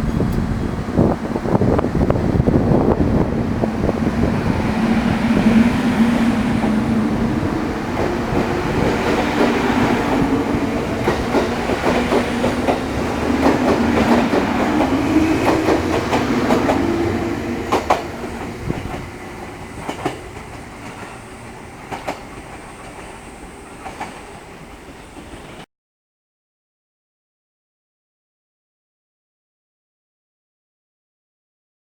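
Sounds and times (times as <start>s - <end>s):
electric train running hum: 0.0s - 25.6s.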